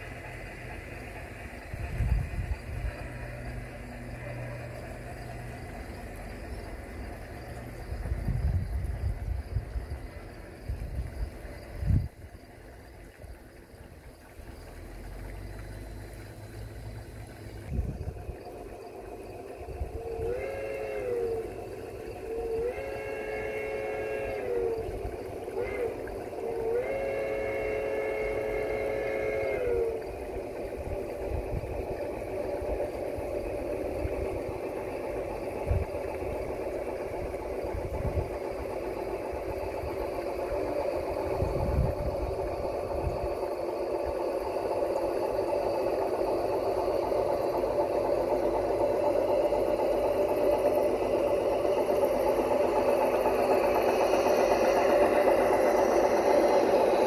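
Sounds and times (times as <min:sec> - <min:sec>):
model steam whistle: 0:00.0 - 0:08.3, 0:19.6 - 0:57.0
model locomotives running: 0:00.0 - 0:57.0.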